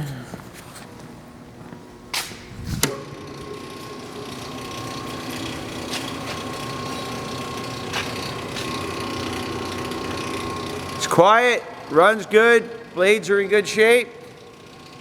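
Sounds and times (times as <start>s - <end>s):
wire stripper machine whining: 1.6s - 15.0s.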